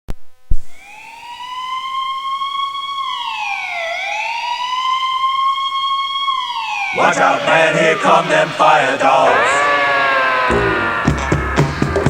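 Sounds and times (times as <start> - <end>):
siren wailing: 0.7 - 12.0.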